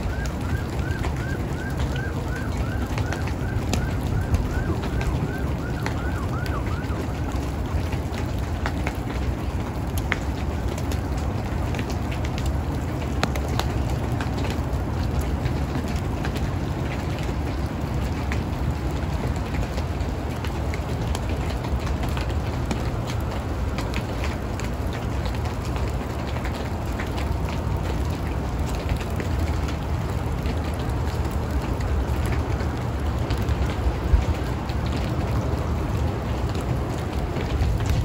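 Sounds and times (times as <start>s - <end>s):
low rumble of wind: 0.0s - 38.0s
wet snow ticking on surfaces: 0.0s - 38.0s.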